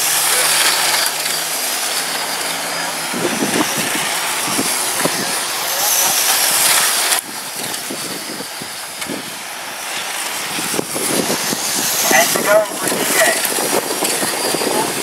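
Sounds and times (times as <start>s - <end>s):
electric model trucks racing: 0.0s - 15.0s.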